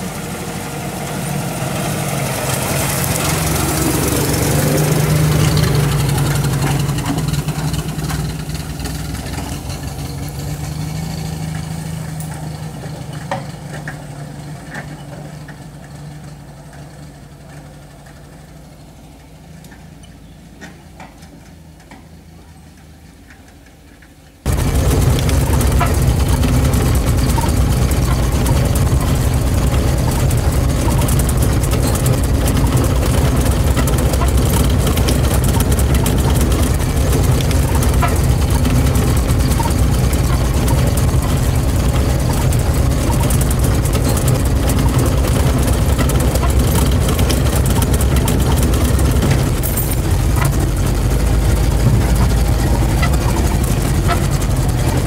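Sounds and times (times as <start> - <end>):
car engine running from inside cab: 0.0 - 19.9, 24.4 - 55.0.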